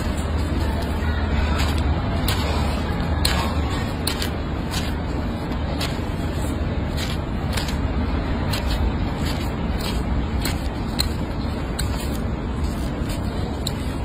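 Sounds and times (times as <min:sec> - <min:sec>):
steady low rumble: 0:00.0 - 0:14.0
nail blade scraping toenail: 0:01.6 - 0:14.0.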